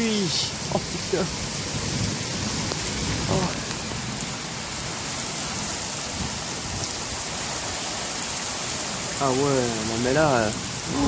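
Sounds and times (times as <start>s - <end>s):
torrential rain hiss: 0.0s - 11.0s.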